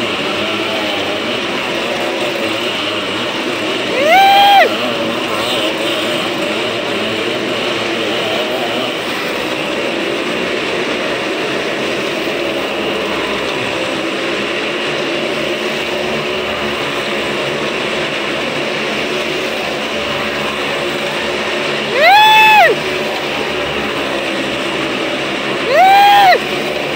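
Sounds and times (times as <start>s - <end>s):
motorcycle engines droning: 0.0s - 26.9s.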